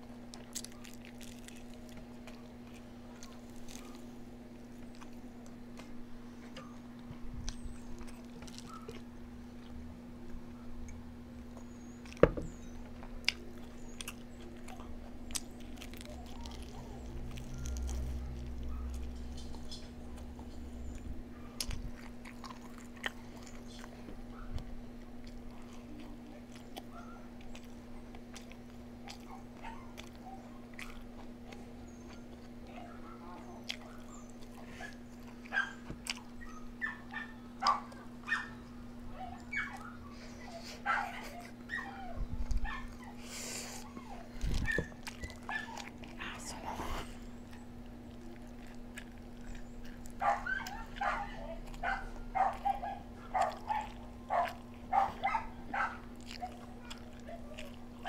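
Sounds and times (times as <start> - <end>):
person chewing and crunching: 0.0 - 41.8, 42.4 - 58.0
steady low hum: 0.0 - 58.0.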